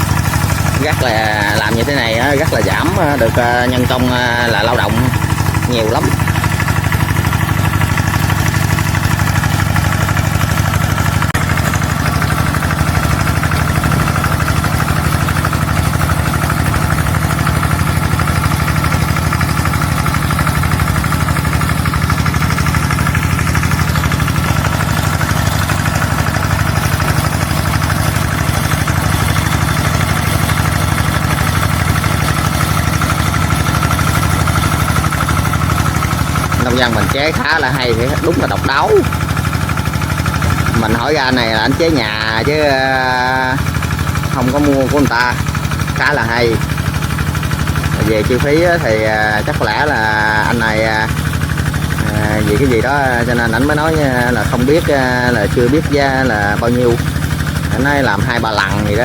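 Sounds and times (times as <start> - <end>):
small sprayer engine running: 0.0 - 59.0.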